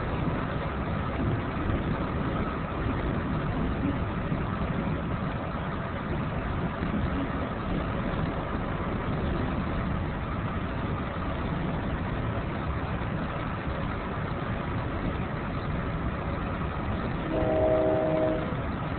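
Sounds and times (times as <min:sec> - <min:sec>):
train rumble inside coach: 0:00.0 - 0:18.9.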